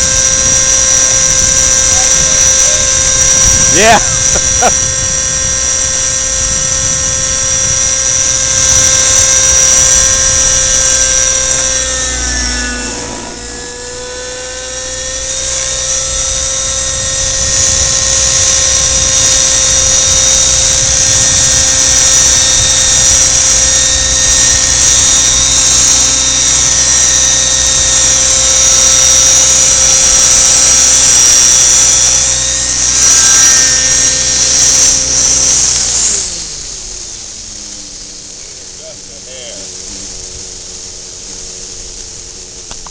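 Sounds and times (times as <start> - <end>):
model helicopter engine whine: 0.0 - 42.9.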